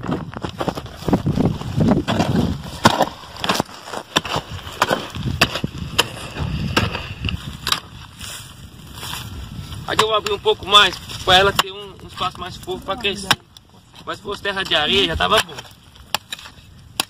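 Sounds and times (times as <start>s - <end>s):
mattock chopping clay soil: 0.0s - 8.0s, 9.0s - 17.0s
dirt shifting: 0.0s - 17.0s.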